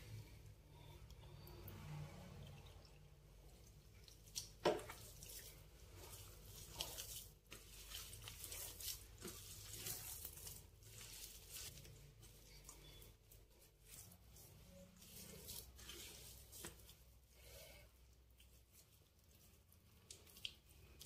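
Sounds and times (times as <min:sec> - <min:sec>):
hand kneading moist dough: 0:00.0 - 0:21.0.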